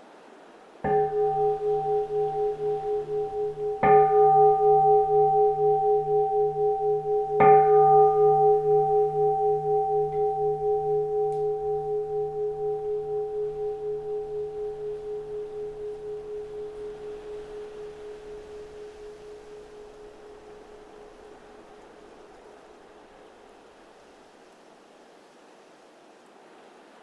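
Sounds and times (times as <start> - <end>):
bowl bell struck and ringing: 0.9 - 22.6.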